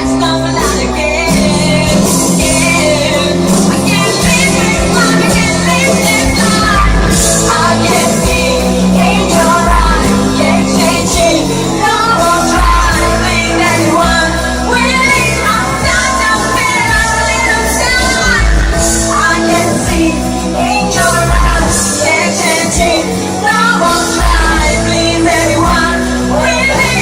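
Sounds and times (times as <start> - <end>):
backing track with bass line: 0.0 - 27.0
woman singing pop song: 0.0 - 27.0.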